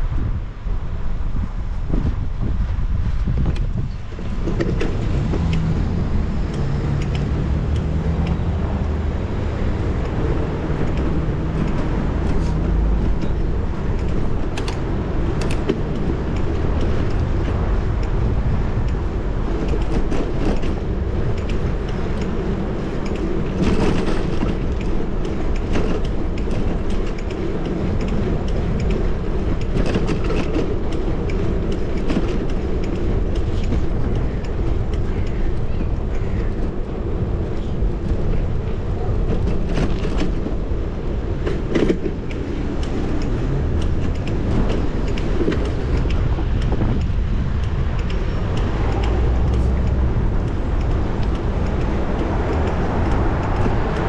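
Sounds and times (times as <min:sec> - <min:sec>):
bicycle riding rumble: 0:00.0 - 0:54.0
bicycle clicks and rattles: 0:03.2 - 0:40.7, 0:41.3 - 0:54.0
motor traffic passing: 0:03.8 - 0:54.0.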